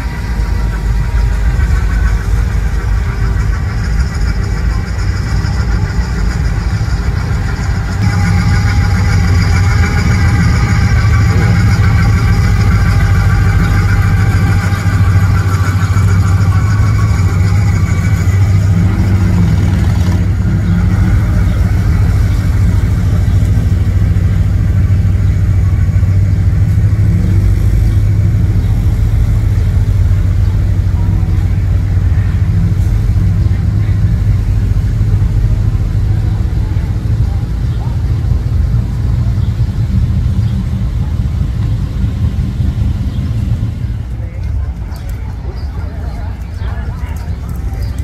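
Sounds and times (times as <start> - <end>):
car and truck engines rumbling: 0.0 - 48.0.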